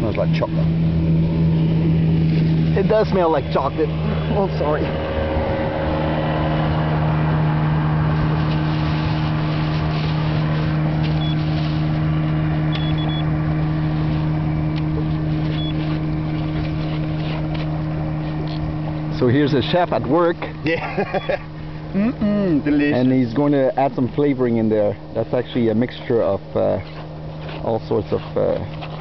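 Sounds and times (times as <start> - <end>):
engine droning steadily: 0.0 - 29.0.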